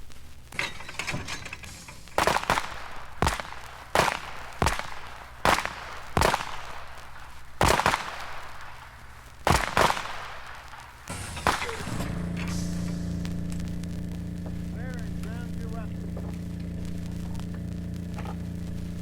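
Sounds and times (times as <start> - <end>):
gunshots: 0.4 - 19.0.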